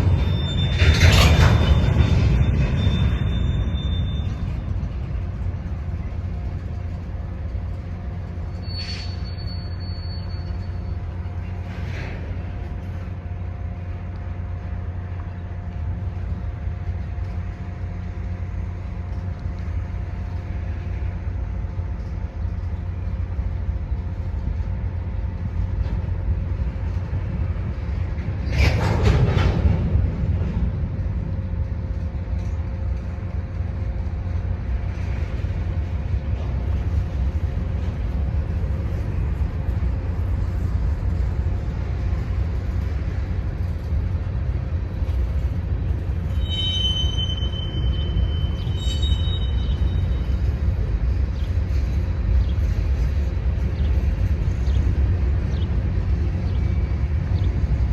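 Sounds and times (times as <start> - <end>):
freight train rumbling: 0.0 - 57.9.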